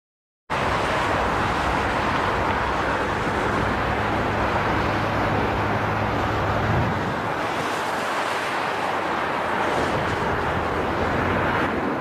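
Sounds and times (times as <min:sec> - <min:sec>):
aircraft engine rush: 0:00.5 - 0:12.0.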